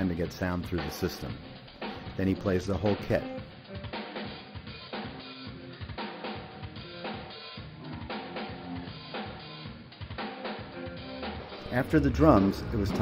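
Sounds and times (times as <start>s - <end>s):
drum kit groove through pa: 0.0s - 13.0s.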